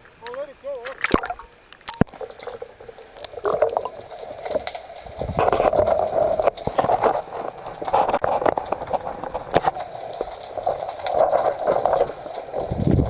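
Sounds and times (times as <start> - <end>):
rough bubbling: 0.0 - 13.0
water gurgling and sloshing: 0.0 - 13.0.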